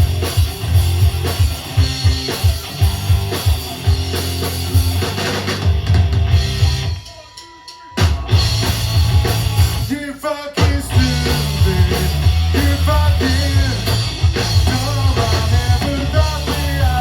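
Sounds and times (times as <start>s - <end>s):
drums driving beat: 0.0s - 17.0s
rock band playing: 0.0s - 17.0s.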